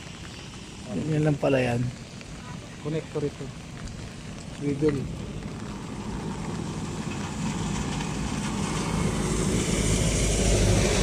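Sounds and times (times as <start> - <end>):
tyres hissing on wet road: 0.0 - 11.0
vehicle engine rumble: 0.0 - 11.0.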